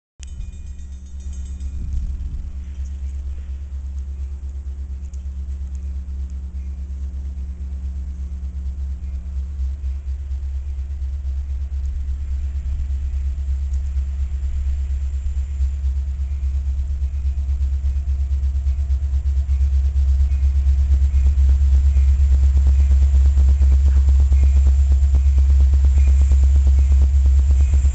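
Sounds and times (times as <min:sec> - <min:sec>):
distant locomotive engine rumble: 0:00.2 - 0:27.9
steady hum: 0:00.2 - 0:27.9.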